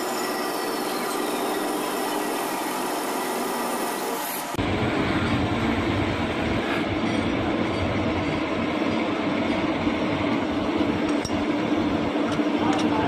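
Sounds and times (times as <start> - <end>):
lathe running hum: 0.0 - 13.0.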